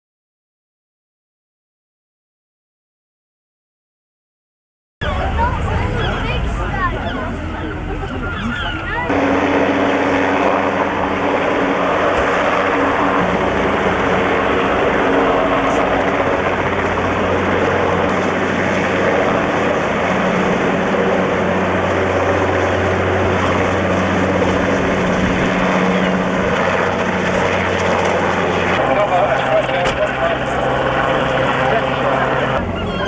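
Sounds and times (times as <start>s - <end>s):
helicopter hovering: 5.0s - 33.0s.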